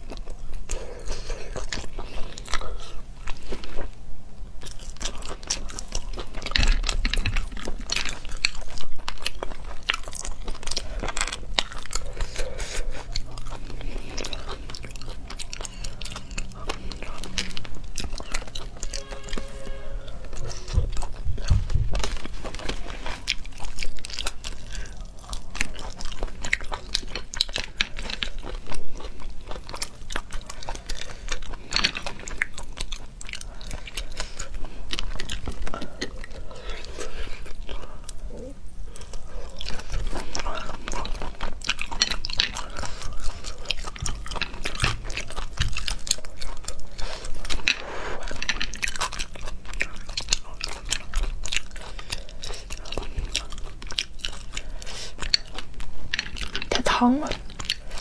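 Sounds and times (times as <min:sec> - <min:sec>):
close chewing and wet mouth sounds: 0:00.0 - 0:58.0.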